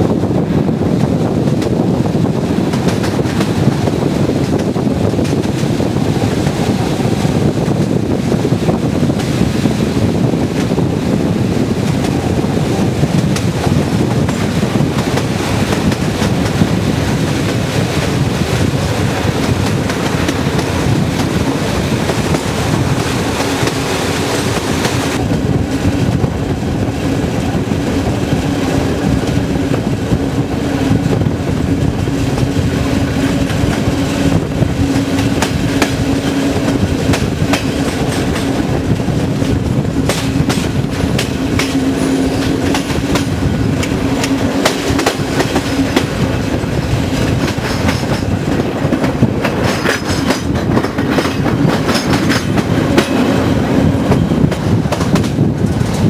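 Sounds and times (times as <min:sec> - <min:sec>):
moving train rumble: 0:00.0 - 0:56.0
wind buffeting the microphone: 0:00.0 - 0:56.0.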